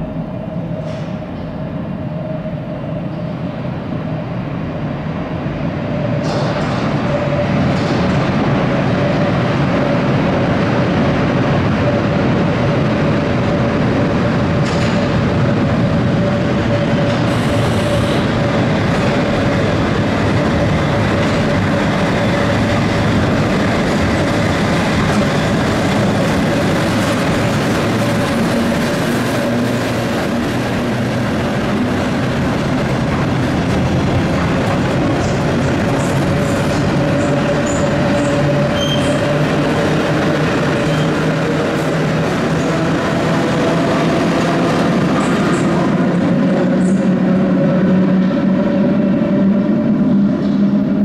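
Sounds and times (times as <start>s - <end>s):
locomotive rumbling: 4.1s - 51.0s.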